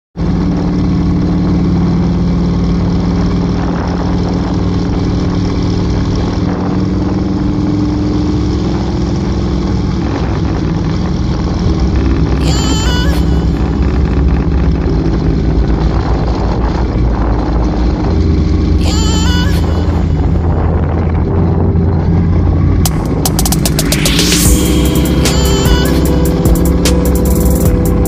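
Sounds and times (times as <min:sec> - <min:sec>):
motorcycle engine cruising: 0:00.2 - 0:28.0
wind and road noise: 0:00.2 - 0:28.0.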